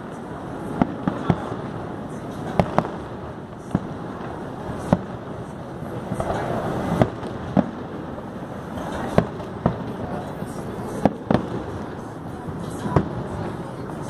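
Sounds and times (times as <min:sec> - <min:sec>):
fireworks bursting: 0:00.0 - 0:14.0
steady background noise: 0:00.0 - 0:14.0.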